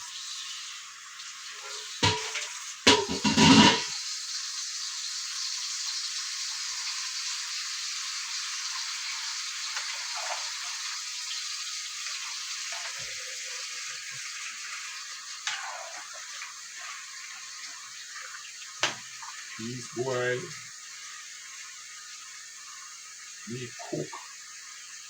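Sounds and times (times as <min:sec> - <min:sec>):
watery hiss from pot of soup: 0:00.0 - 0:25.0.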